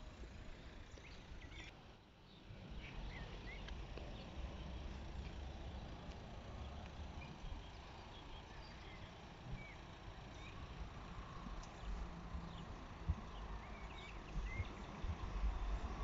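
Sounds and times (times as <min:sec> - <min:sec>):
low rumble of wind: 0:00.0 - 0:16.0
small birds chirping: 0:00.6 - 0:16.0.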